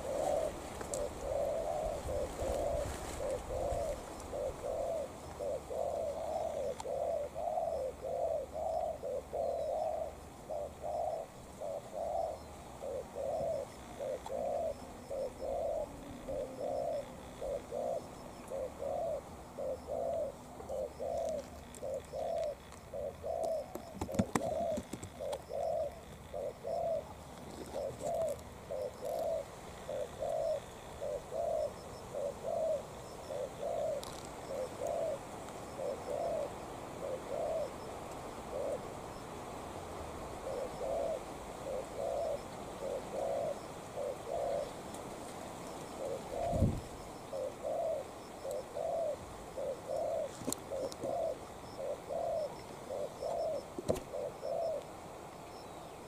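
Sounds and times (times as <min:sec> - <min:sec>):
dove cooing: 0:00.0 - 0:39.2, 0:40.2 - 0:55.2.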